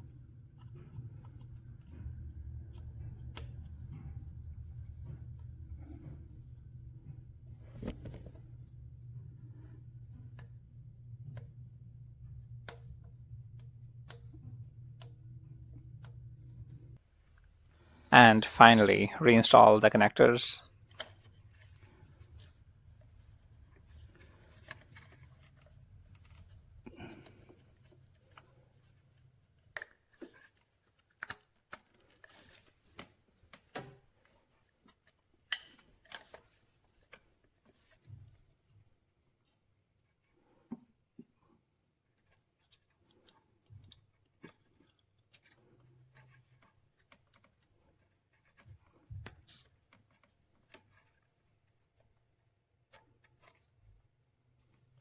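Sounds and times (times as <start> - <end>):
faint handling sounds: 0.0 - 55.0.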